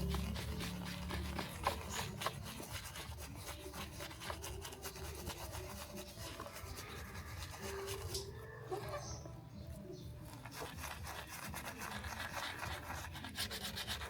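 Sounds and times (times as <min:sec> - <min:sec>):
rapid rubbing strokes: 0:00.0 - 0:14.0.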